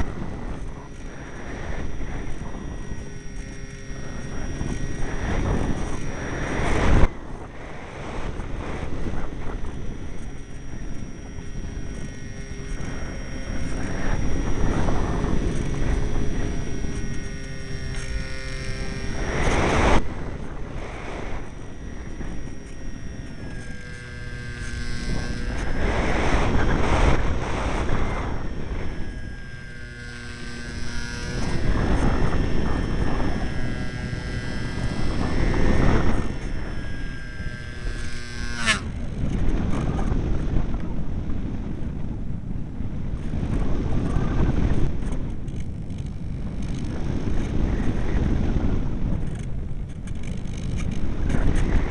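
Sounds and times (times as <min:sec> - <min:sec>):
steady multi-tone whine: 0:00.0 - 0:51.9
wind buffeting microphone: 0:00.0 - 0:51.9.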